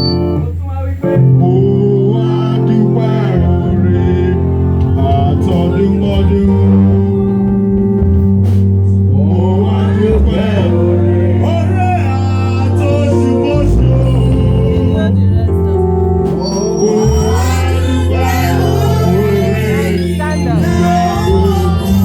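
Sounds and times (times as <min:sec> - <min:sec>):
band playing praise music: 0:00.0 - 0:22.0
person singing: 0:01.0 - 0:07.9, 0:09.0 - 0:22.0.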